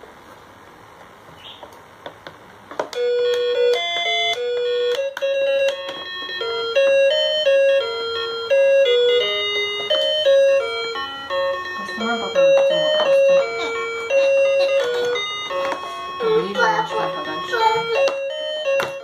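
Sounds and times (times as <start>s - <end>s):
electronic toy tune: 3.0s - 19.0s.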